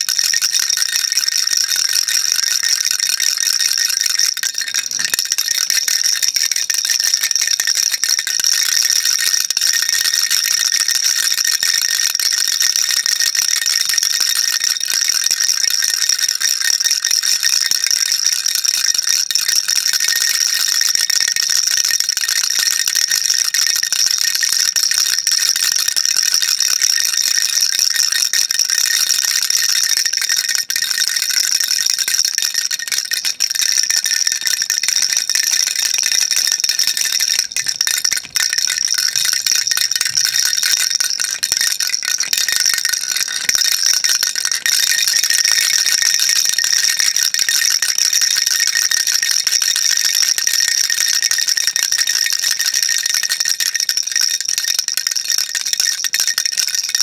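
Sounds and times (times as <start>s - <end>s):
baby rattle shaking: 0.0s - 21.5s, 24.8s - 50.0s.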